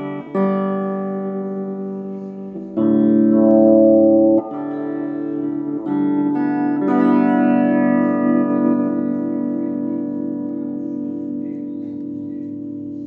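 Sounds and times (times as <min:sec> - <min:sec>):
electric guitar chords ringing: 0:00.0 - 0:13.0.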